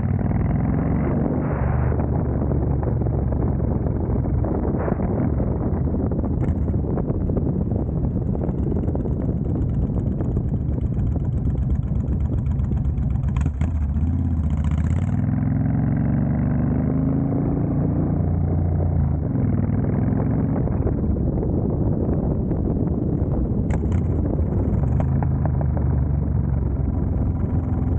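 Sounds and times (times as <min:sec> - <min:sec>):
motorcycle engine running: 0:00.0 - 0:27.9
wind noise on microphone: 0:00.0 - 0:27.9.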